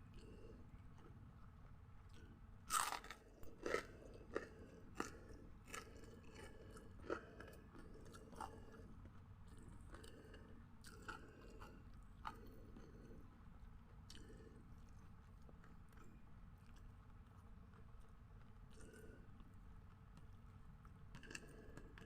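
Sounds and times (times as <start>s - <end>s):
crunchy food being chewed: 0.0s - 22.0s.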